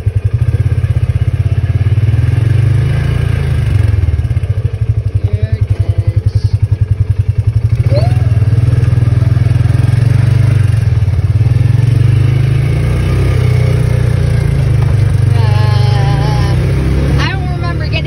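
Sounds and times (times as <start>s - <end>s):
utv engine droning: 0.0s - 18.0s.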